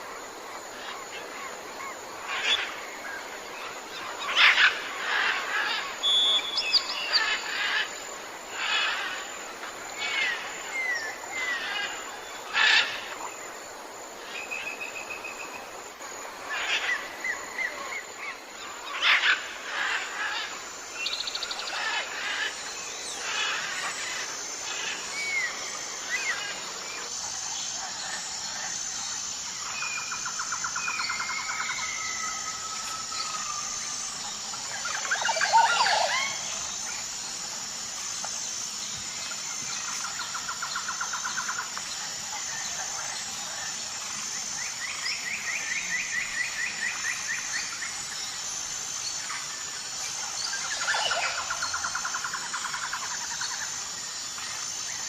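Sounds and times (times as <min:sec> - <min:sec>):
steady high-pitched hiss: 0:00.0 - 0:55.0
jungle birds calling: 0:00.7 - 0:13.4, 0:16.3 - 0:55.0.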